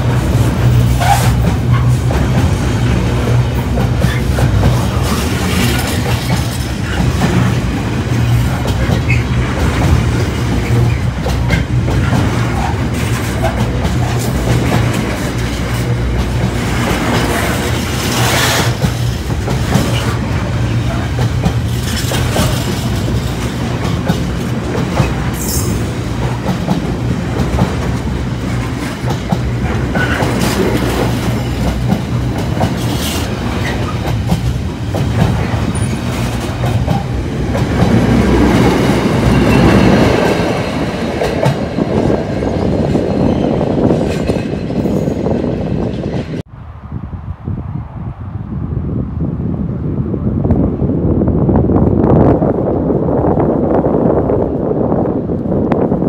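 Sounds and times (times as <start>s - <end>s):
wheels clacking over rail joints: 0.0s - 46.4s
freight train rumbling past: 0.0s - 56.0s.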